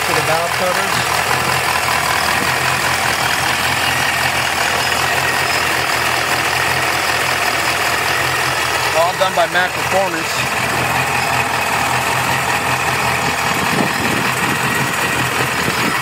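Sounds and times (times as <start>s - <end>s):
vee eight engine idling: 0.0s - 16.0s.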